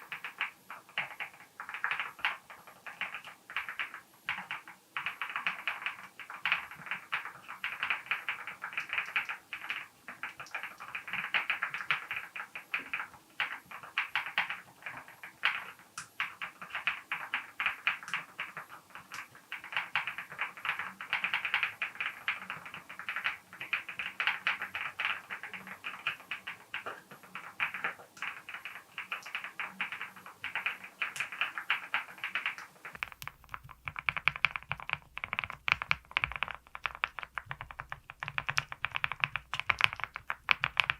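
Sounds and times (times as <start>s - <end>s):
fast keyboard typing: 0.0s - 40.9s.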